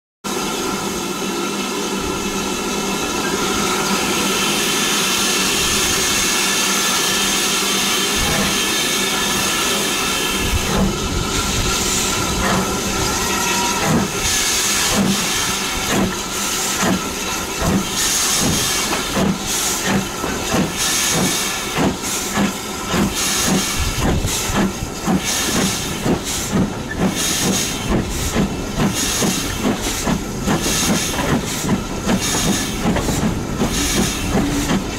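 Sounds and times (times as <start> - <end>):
steam locomotive hissing: 0.3 - 34.9.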